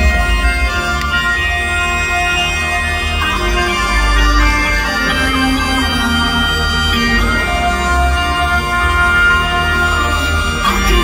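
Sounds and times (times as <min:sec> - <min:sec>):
bagpipes playing over drones: 0:00.0 - 0:11.0.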